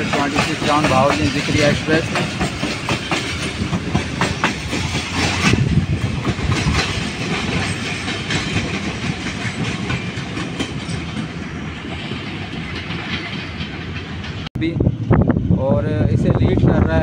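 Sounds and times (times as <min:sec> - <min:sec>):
train wheels clattering over rail joints: 0:00.0 - 0:14.5
train rumble: 0:00.0 - 0:17.0.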